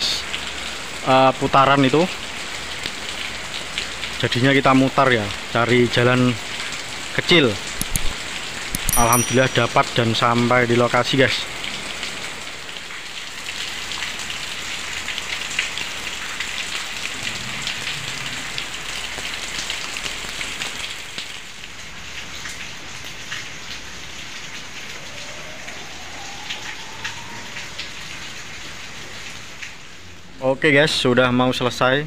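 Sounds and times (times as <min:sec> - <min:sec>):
heavy rain falling: 0:00.0 - 0:30.4
raindrops splashing: 0:00.0 - 0:30.4.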